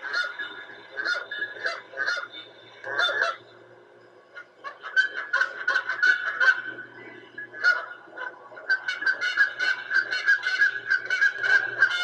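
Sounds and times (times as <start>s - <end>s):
honking bird calls: 0.0s - 3.6s, 4.3s - 12.0s.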